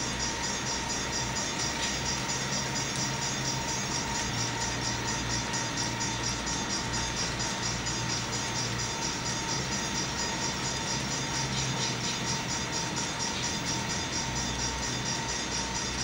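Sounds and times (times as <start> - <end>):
electric motors humming and whining: 0.0 - 16.0.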